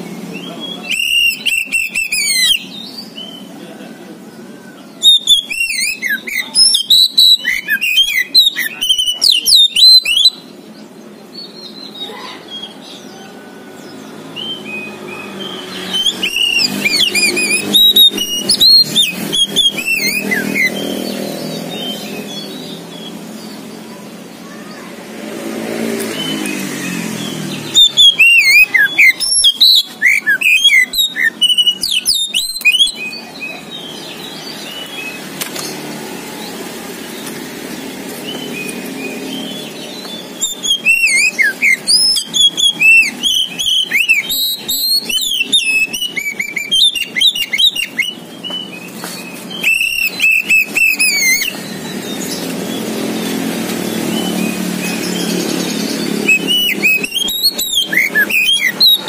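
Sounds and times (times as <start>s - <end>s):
bird singing whistles and chatter: 0.0s - 59.0s
vehicle engine humming: 10.3s - 59.0s.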